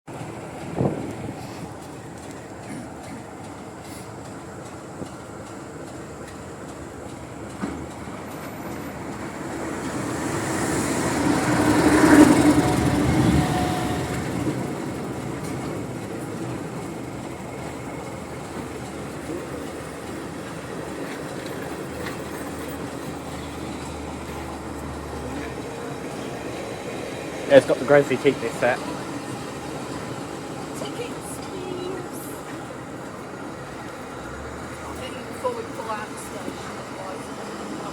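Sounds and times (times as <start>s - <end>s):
diesel train rumbling past: 0.1s - 37.9s.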